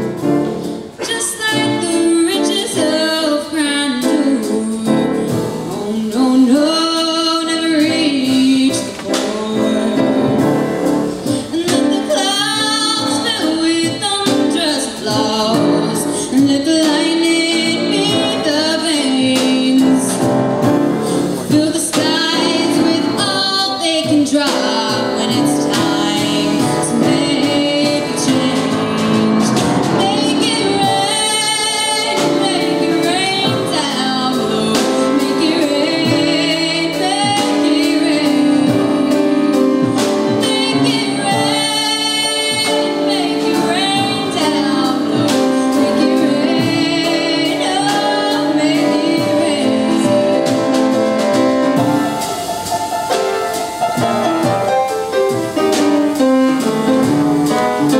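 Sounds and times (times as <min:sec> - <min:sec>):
instrumental accompaniment: 0:00.0 - 0:57.9
woman singing into microphone: 0:00.9 - 0:20.4, 0:21.5 - 0:52.3.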